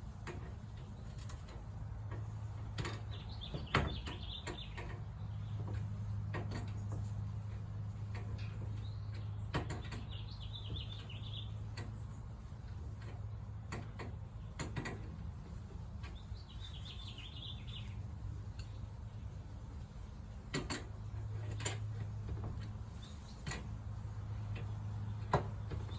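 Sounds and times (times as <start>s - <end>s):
sharp clicks and knocks: 0.0s - 16.6s, 20.5s - 25.9s.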